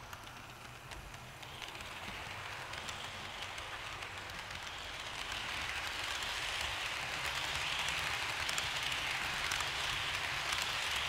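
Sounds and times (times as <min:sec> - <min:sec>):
model train whirring: 0:00.0 - 0:11.0.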